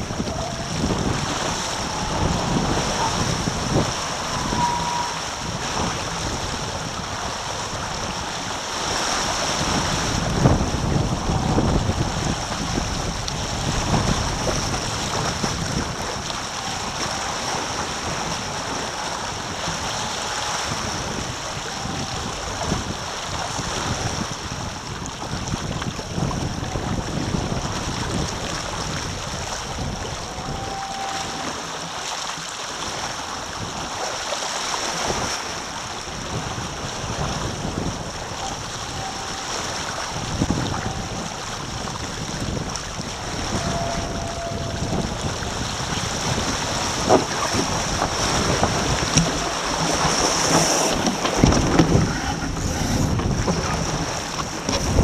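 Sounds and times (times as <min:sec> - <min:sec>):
wind buffeting microphone: 0:00.0 - 0:31.9, 0:34.8 - 0:55.0
water rushing past hulls: 0:00.0 - 0:55.0.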